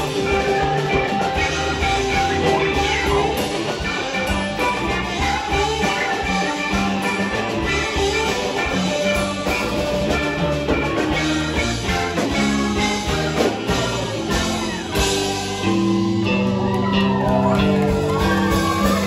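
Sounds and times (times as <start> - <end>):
drum kit: 0.0 - 19.0
electric guitar: 0.0 - 19.0
rock band playing: 0.0 - 19.0.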